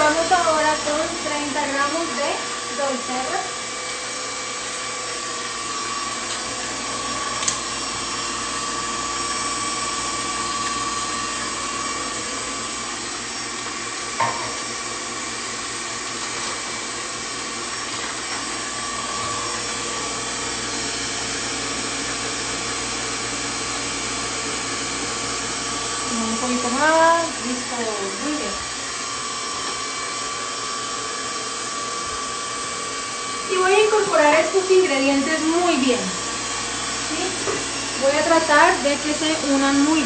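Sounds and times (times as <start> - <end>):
stand mixer whirring: 0.0 - 40.0.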